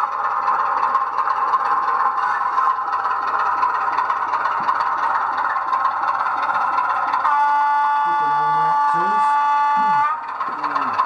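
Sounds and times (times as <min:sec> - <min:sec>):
model train motor hum: 0:00.0 - 0:11.0
wheels rattling on track: 0:00.0 - 0:11.0.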